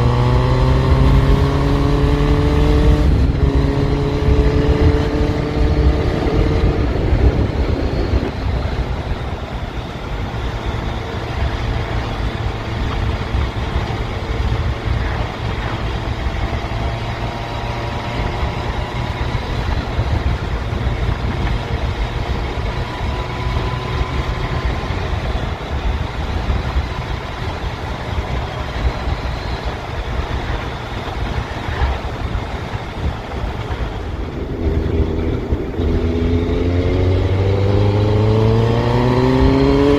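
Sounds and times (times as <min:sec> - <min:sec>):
heavy low rumble: 0:00.0 - 0:39.8
motorcycle engine running: 0:00.0 - 0:39.9.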